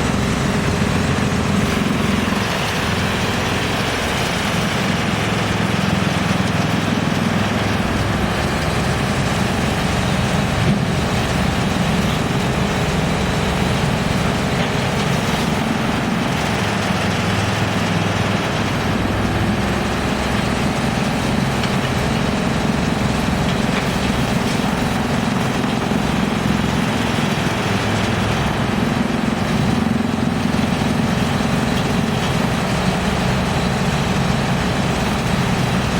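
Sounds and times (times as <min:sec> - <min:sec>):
wood chipper running: 0:00.0 - 0:35.9.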